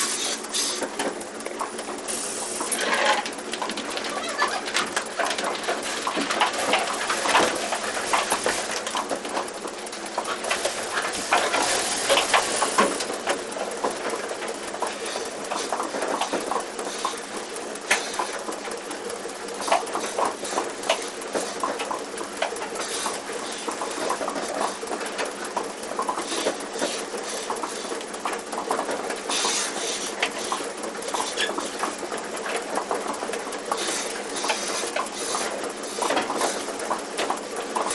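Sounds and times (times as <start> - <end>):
machine hum: 0.0 - 37.9
clicks knocks and metal clatter: 0.7 - 2.0, 2.6 - 37.9.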